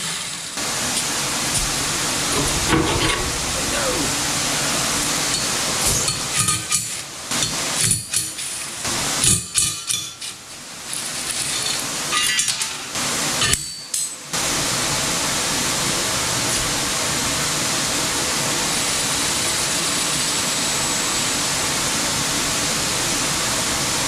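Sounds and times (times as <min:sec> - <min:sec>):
shop fan blowing: 0:00.0 - 0:24.0.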